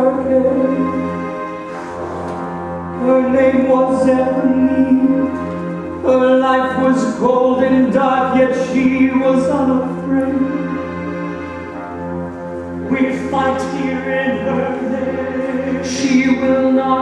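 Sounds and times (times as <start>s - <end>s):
orchestra playing slow music: 0.0s - 17.0s.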